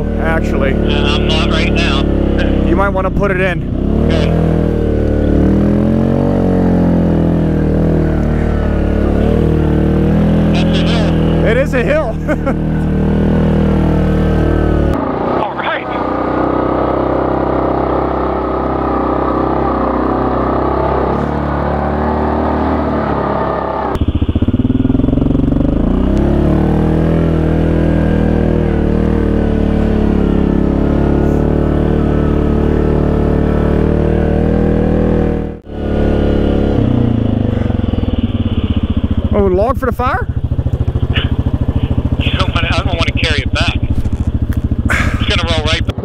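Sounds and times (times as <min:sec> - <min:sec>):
atv engine running: 0:00.0 - 0:46.0.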